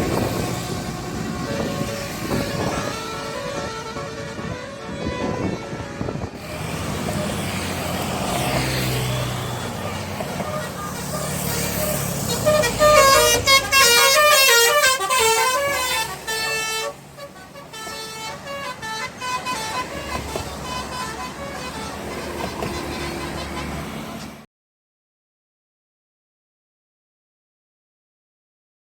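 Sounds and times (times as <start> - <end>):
multi-tone bus horn: 0.0 - 24.4
bus engine rumble: 0.0 - 24.5.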